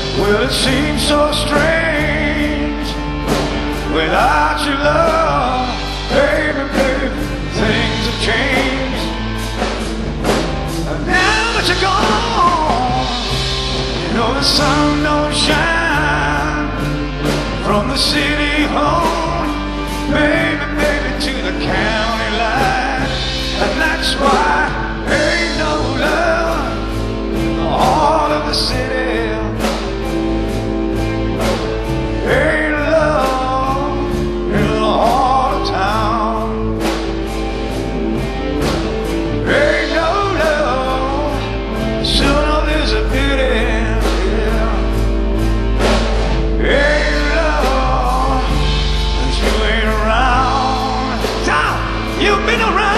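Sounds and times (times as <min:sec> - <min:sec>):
man singing lead: 0:00.0 - 0:30.8, 0:31.4 - 0:37.6, 0:38.3 - 0:52.9
bass guitar: 0:00.0 - 0:52.9
drum kit: 0:00.0 - 0:52.9
electric guitars: 0:00.0 - 0:52.9.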